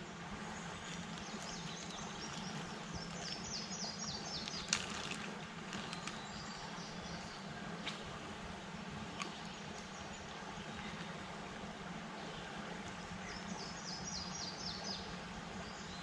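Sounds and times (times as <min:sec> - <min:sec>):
low outdoor background hum: 0:00.0 - 0:16.0.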